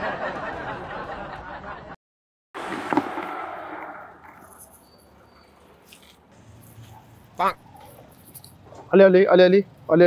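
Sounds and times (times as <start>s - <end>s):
background noise: 0.0s - 2.0s, 2.6s - 10.0s.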